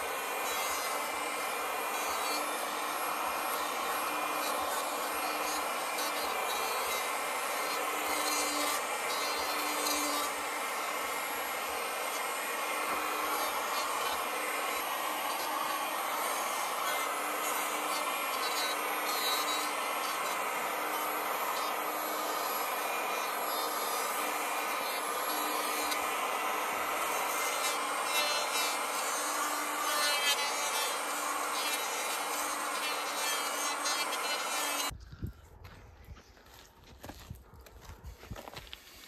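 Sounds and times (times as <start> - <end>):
electric planer shaving wood: 0.0 - 35.0.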